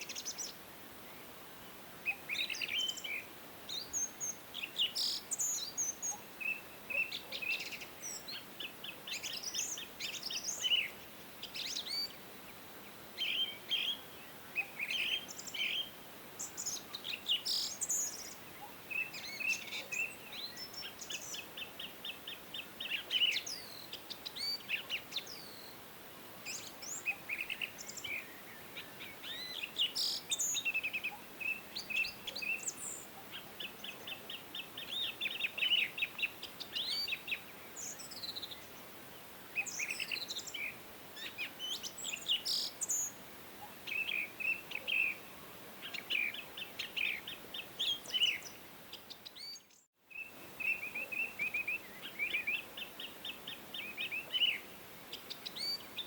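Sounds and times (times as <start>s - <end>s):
faint background hiss: 0.0s - 56.0s
songbirds singing and calling: 0.0s - 56.0s.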